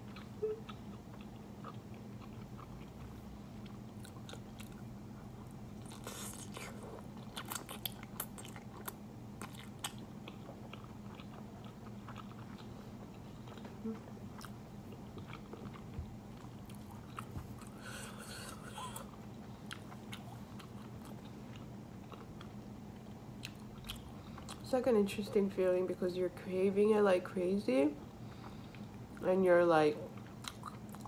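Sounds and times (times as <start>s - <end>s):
person chewing noodles: 0.0s - 24.6s, 30.2s - 31.0s.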